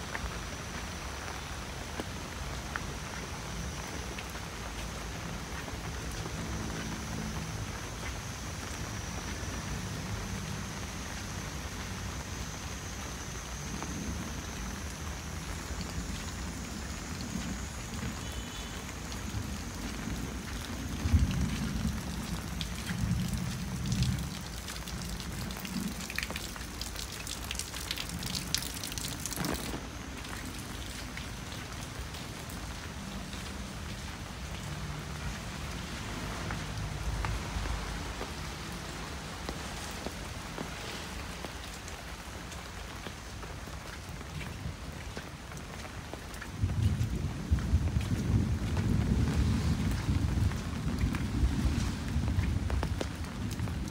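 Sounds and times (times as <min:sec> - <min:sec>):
light rain pattering: 0:00.0 - 0:53.9.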